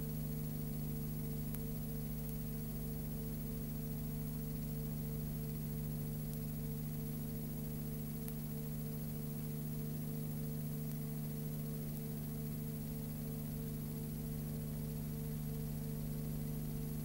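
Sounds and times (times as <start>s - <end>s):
electrical hum: 0.0s - 17.0s
tape hiss: 0.0s - 17.0s.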